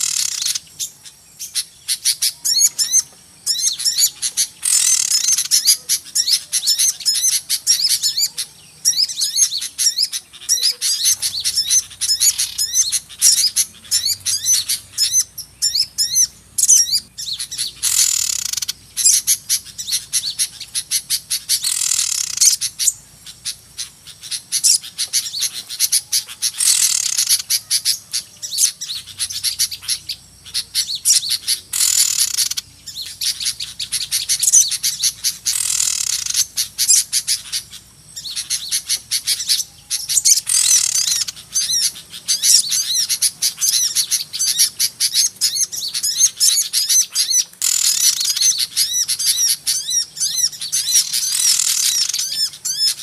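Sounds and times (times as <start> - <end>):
small birds chirping and twittering: 0.0 - 53.0.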